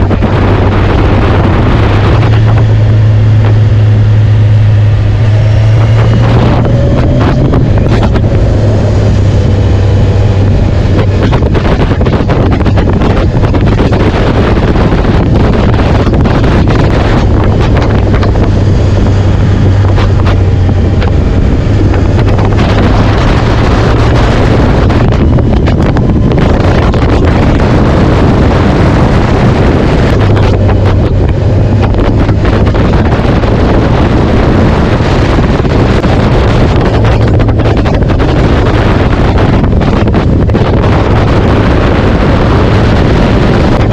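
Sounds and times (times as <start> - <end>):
steady low drone: 0.0 - 43.9
wind buffeting microphone: 0.0 - 43.9.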